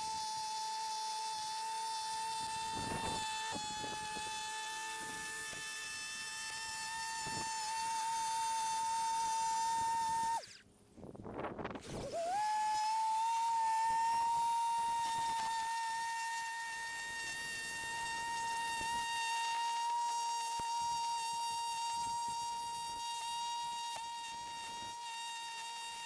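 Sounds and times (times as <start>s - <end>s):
electric grinder whining: 0.0s - 10.6s, 11.8s - 26.0s.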